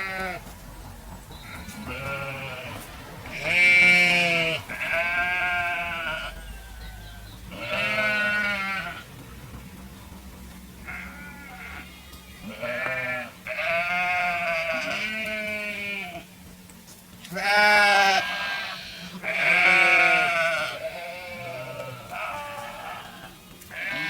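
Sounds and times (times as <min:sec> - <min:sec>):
sheep bleating: 0:00.0 - 0:00.4, 0:01.4 - 0:09.1, 0:10.8 - 0:16.3, 0:17.3 - 0:24.0.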